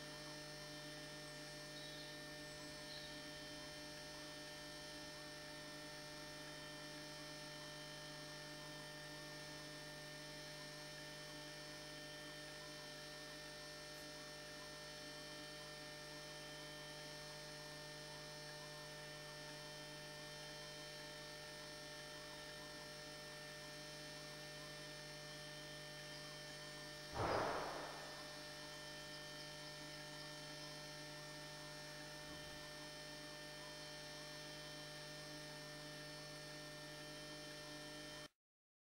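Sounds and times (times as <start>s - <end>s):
electrical mains hum: 0.0s - 38.3s.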